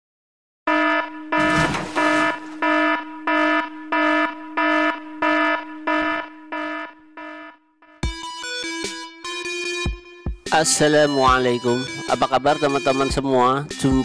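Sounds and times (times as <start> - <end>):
electronic alarm beeping: 0.7 - 9.9, 11.1 - 14.0.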